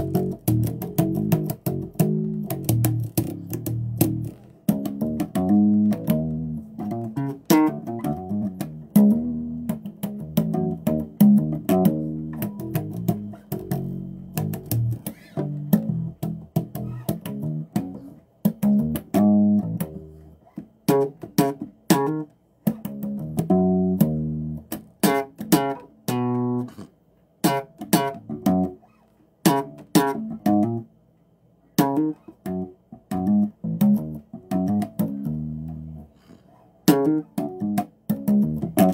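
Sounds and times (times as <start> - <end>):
bass guitar plucked notes: 0.0 - 30.9, 31.8 - 36.2, 36.9 - 38.9.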